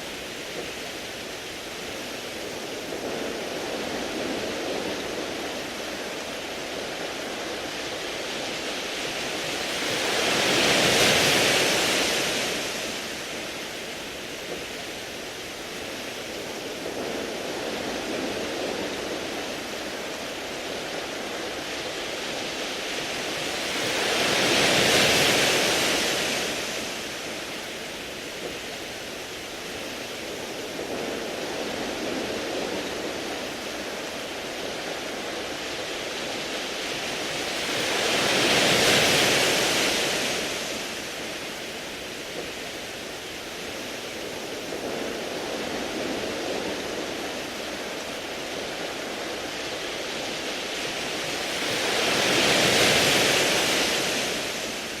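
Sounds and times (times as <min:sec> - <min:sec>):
waves washing over pebbles: 0:00.0 - 0:55.0.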